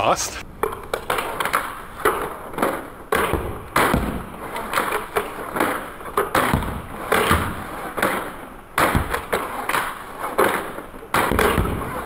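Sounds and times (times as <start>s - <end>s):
crossbow clacks and thuds: 0.6s - 12.0s.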